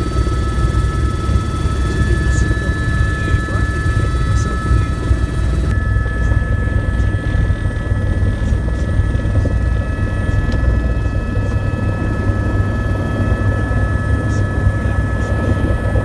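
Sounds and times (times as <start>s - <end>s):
helicopter rotor thrum: 0.0s - 16.0s
helicopter turbine whine: 0.0s - 16.0s.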